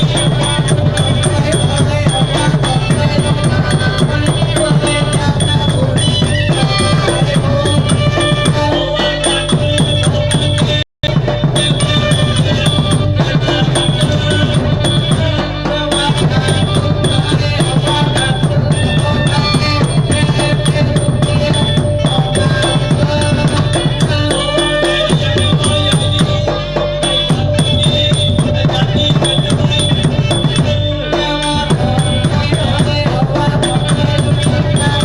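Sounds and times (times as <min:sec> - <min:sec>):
drum and percussion rhythm: 0:00.0 - 0:35.0.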